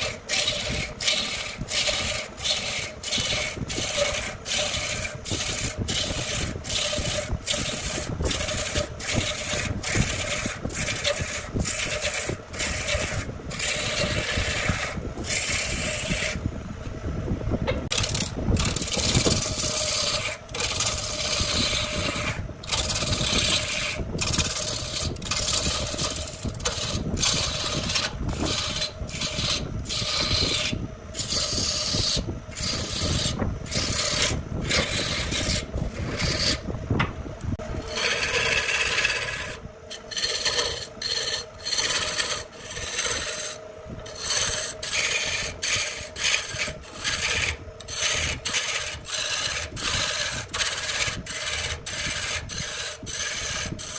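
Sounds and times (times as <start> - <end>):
tool scraping wood on lathe: 0.0 - 16.5, 17.8 - 36.7, 37.6 - 53.9
lathe motor hum: 0.0 - 53.9.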